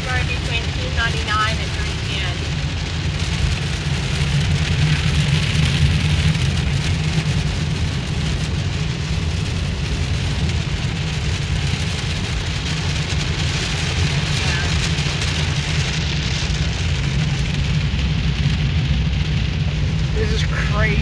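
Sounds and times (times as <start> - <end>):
car driving rumble: 0.0 - 21.0
heavy rain on car roof: 0.0 - 21.0.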